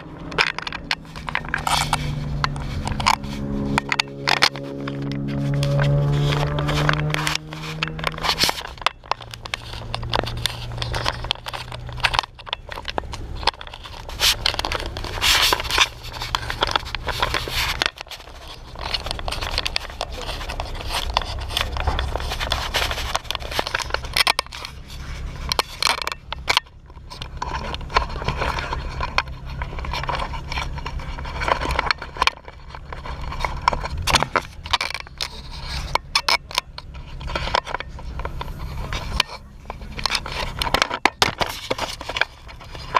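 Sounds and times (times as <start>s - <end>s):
camera rubbing against clothing: 0.0s - 42.9s
car engine humming: 0.0s - 42.9s.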